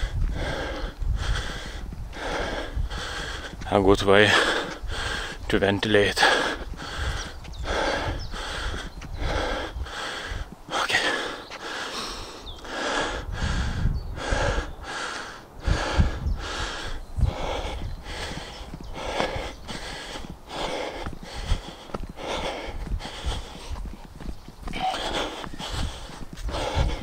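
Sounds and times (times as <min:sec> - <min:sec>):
man breathing hard and fast: 0:00.0 - 0:27.0.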